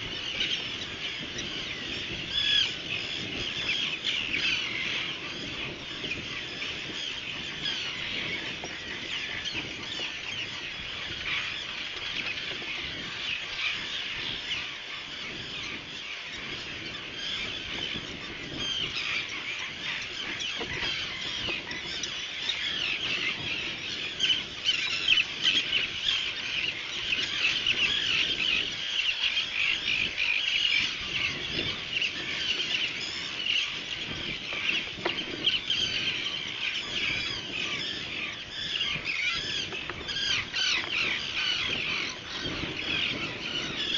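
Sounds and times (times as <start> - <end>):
seabirds chattering: 0.0 - 43.9.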